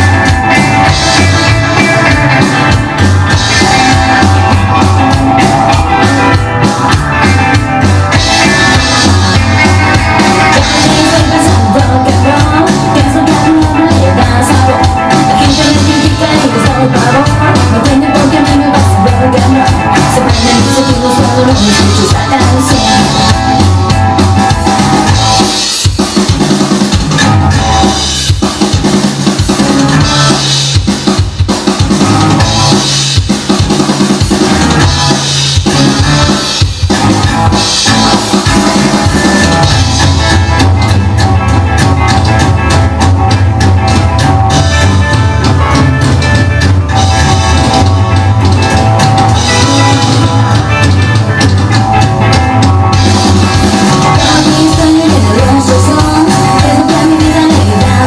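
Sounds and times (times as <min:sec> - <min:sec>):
drum kit: 0:00.0 - 0:58.0
heavy bass: 0:00.0 - 0:58.0
rock and roll song: 0:00.0 - 0:58.0.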